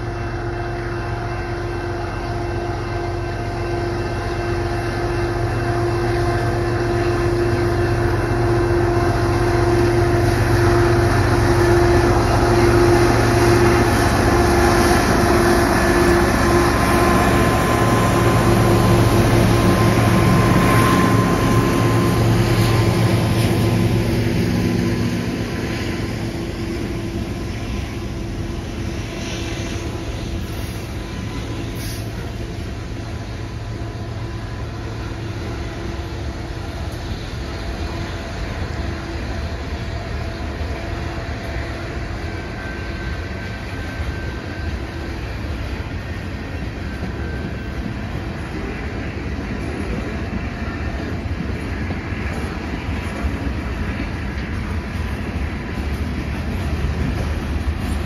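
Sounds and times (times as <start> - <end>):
diesel locomotive engine humming: 0.0 - 58.0
train wheels rumbling on track: 0.0 - 58.0.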